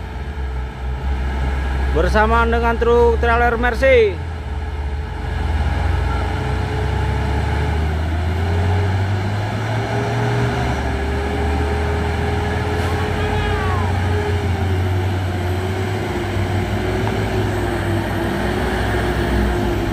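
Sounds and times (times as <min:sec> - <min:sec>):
truck diesel engines droning: 0:00.0 - 0:19.9.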